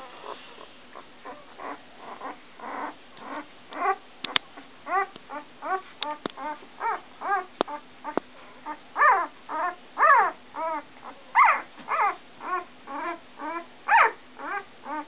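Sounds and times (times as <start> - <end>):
puppy whining: 0.0 - 15.0.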